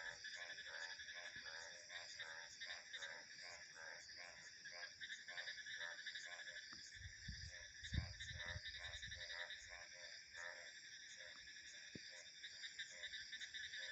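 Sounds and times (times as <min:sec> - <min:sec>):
crickets chirring: 0:00.0 - 0:13.9
frogs croaking in chorus: 0:00.0 - 0:13.9.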